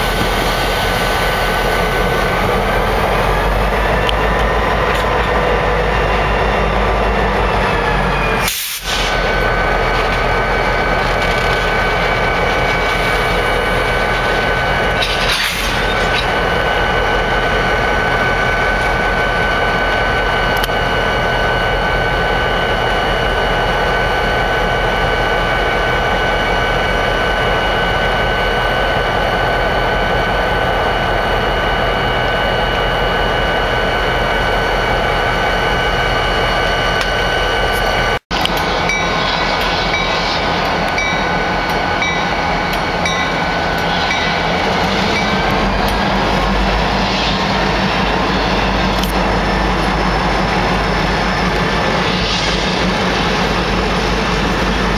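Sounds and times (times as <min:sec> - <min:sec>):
diesel locomotives running: 0:00.0 - 0:54.9
steady whine: 0:00.0 - 0:54.9.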